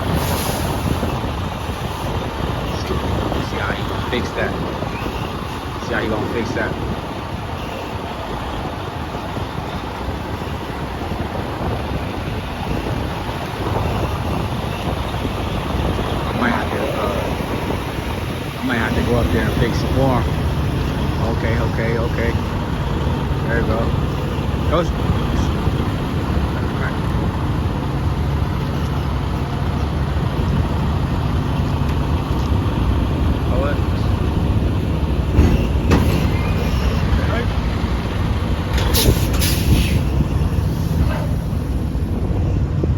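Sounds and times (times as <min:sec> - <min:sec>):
truck engine rumbling: 0:00.0 - 0:42.9
wind buffeting microphone: 0:00.0 - 0:42.9.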